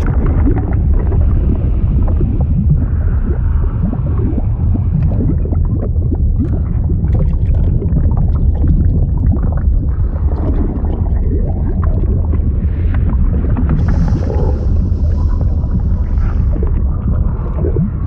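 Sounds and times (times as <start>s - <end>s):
deep steady rumble: 0.0s - 18.0s
liquid bubbling and gurgling: 0.0s - 18.0s.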